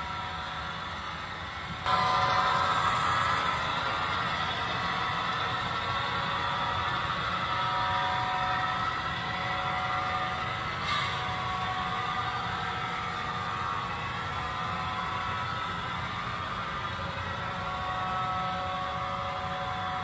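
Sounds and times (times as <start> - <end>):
model train whirring: 0.0 - 20.0.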